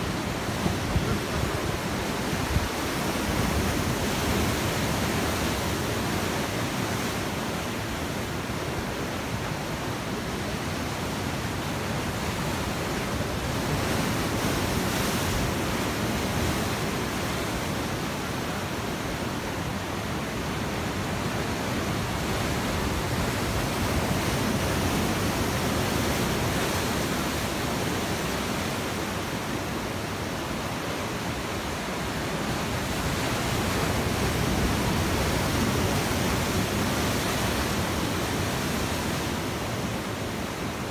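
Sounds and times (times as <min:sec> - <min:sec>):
sea surf breaking on rocks: 0:00.0 - 0:40.9.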